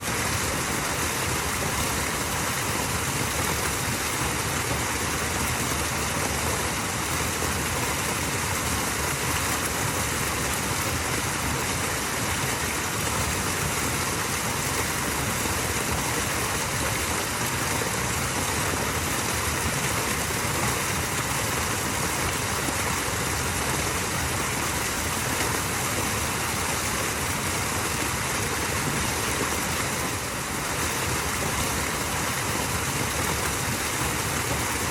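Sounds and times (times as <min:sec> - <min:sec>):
small waterfall rushing: 0:00.0 - 0:34.9.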